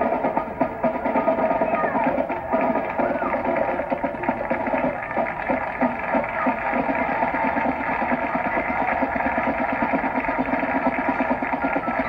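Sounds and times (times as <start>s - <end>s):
drums beating fast: 0.0s - 12.0s
marching band playing: 0.0s - 12.0s.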